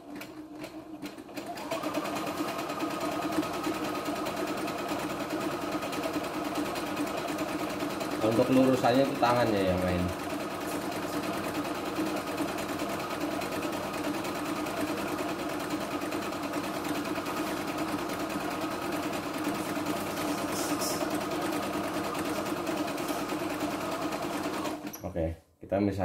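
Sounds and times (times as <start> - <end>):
sewing machine stitching: 0.0 - 25.0.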